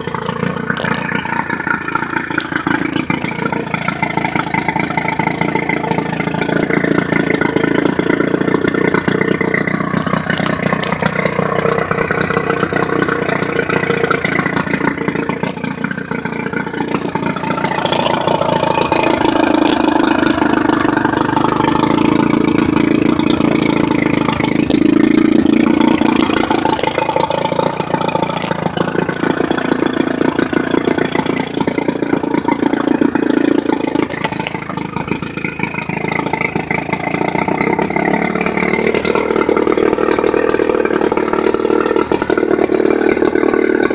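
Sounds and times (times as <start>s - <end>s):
outboard motor running: 0.0s - 43.9s.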